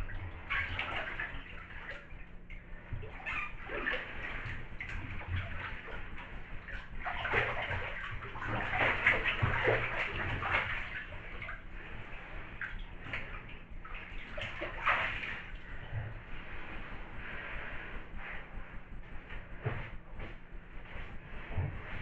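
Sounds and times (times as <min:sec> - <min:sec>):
bathwater sloshing and splashing: 0:00.0 - 0:18.7, 0:19.3 - 0:22.0.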